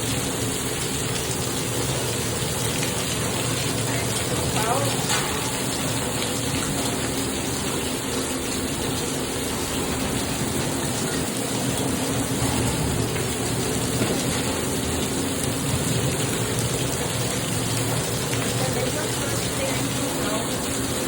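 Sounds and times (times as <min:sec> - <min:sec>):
heavy rain with hail: 0:00.0 - 0:21.0.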